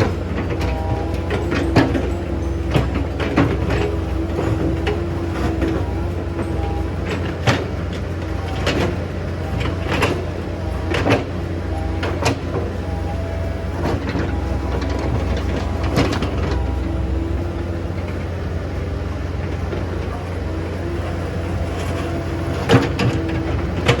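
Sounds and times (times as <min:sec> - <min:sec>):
excavator diesel engine running: 0:00.0 - 0:24.0
faint hydraulic whine: 0:00.0 - 0:24.0.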